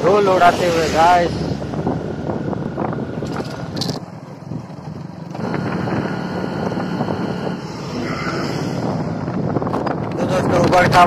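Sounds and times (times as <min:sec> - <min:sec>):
motorcycle running: 0:00.0 - 0:11.0
wind buffeting microphone: 0:00.0 - 0:11.0.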